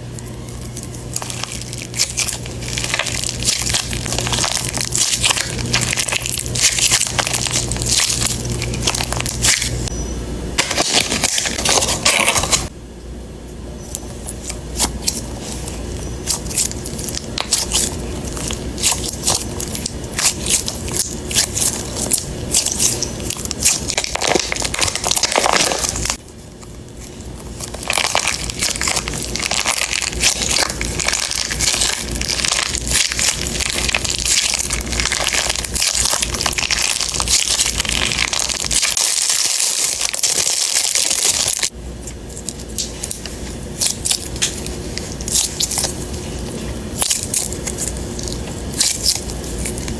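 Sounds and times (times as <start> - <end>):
plastic packaging crinkling: 0.0 - 9.9, 10.6 - 12.7, 13.9 - 49.9.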